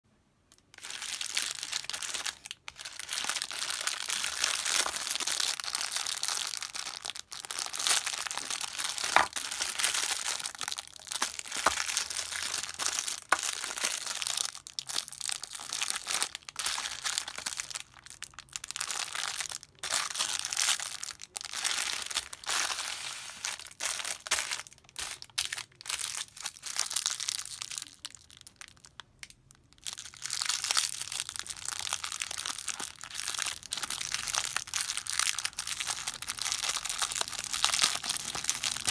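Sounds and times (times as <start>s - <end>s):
plastic bags crinkling: 0.5s - 29.0s, 29.8s - 38.9s.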